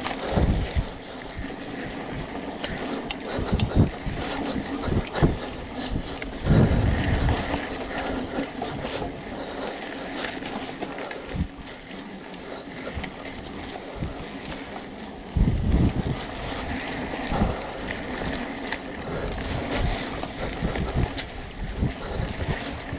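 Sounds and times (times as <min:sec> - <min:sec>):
bike rattles: 0:00.0 - 0:22.9
bike tyres rolling on dirt: 0:00.0 - 0:22.9
wind buffeting microphone: 0:00.0 - 0:22.9.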